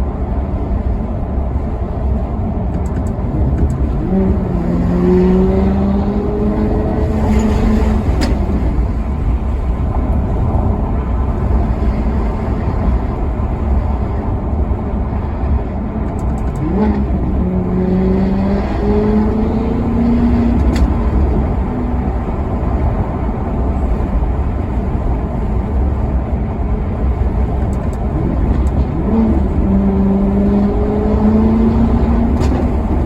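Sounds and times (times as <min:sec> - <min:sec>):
car engine revving: 0:02.1 - 0:33.0.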